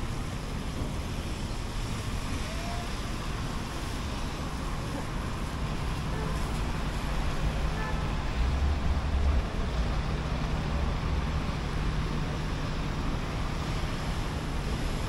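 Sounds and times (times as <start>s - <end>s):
traffic hiss: 0.0s - 15.0s.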